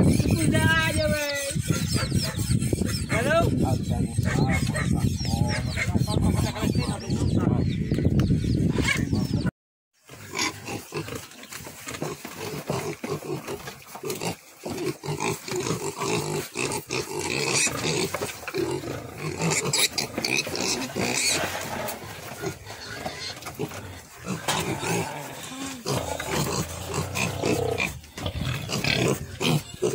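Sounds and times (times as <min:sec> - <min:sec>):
piglets grunting and squealing: 0:00.0 - 0:07.7, 0:10.1 - 0:29.9.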